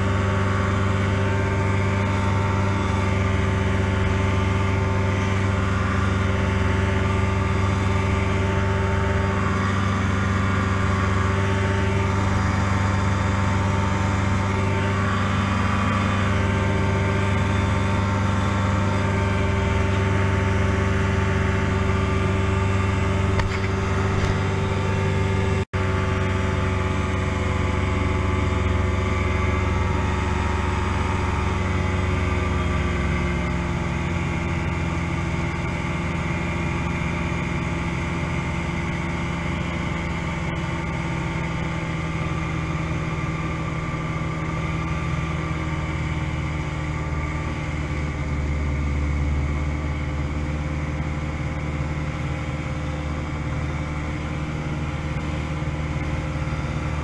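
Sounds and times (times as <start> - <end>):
ultralight engine and propeller: 0.0 - 57.0.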